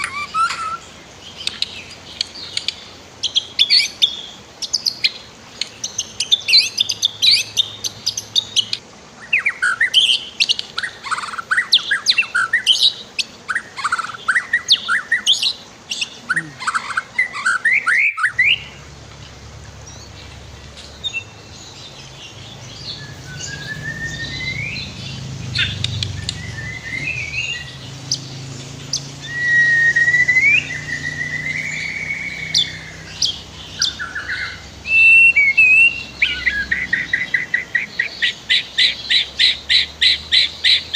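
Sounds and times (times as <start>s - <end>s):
songbird chirping and whistling: 0.0s - 18.8s, 19.8s - 40.9s.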